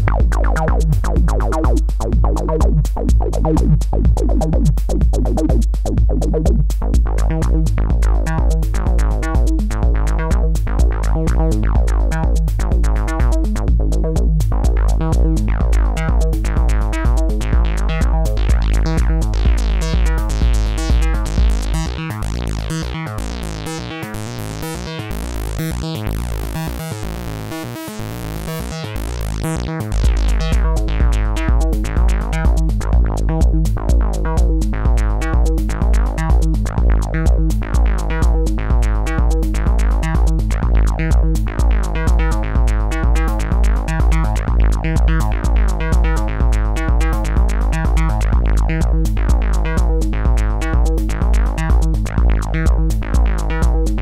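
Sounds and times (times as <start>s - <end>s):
synthesizer techno bassline: 0.0s - 54.0s.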